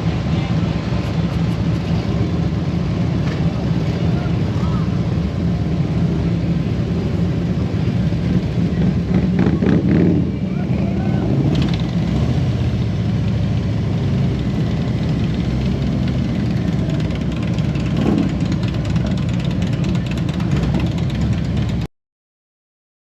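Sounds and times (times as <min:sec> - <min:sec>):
motorcycle engine rumbling: 0:00.0 - 0:21.9.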